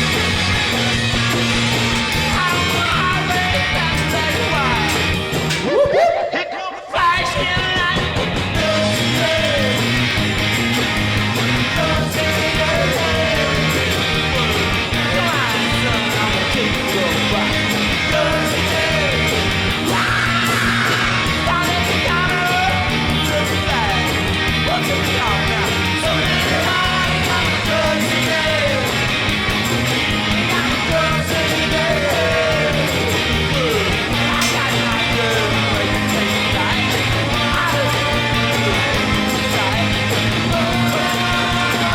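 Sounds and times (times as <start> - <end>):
rock music with shouted singing: 0.0 - 41.9.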